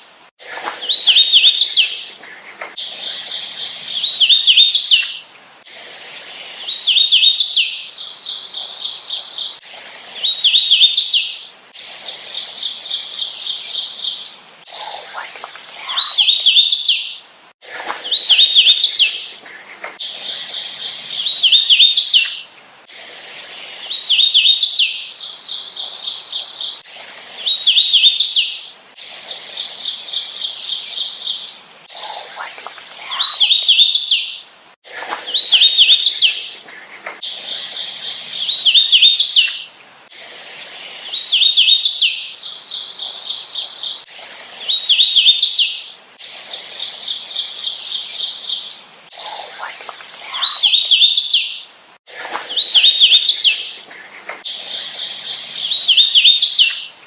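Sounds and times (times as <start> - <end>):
warbler singing: 0.0 - 5.3, 6.2 - 22.6, 23.4 - 28.7, 29.4 - 39.8, 40.8 - 57.0.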